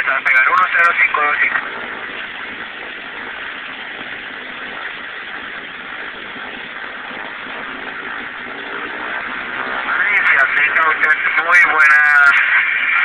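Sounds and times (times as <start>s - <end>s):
propeller plane engines droning: 0.0s - 13.0s.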